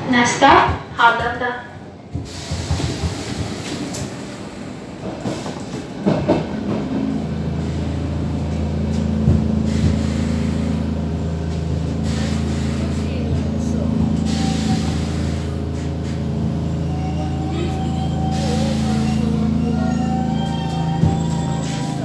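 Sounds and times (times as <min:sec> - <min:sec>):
train clatter: 0:00.0 - 0:22.0
train running noise: 0:00.0 - 0:22.0.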